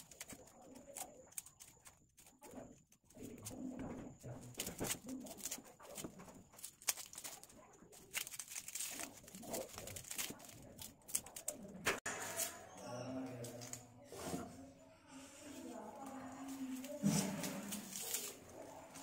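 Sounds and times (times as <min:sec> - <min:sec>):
onion skin crackling: 0:00.0 - 0:12.6, 0:15.8 - 0:19.0.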